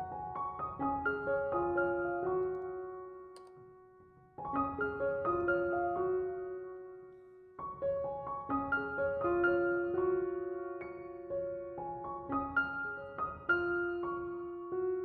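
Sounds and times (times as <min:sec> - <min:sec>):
gentle piano phrase: 0:00.0 - 0:15.0.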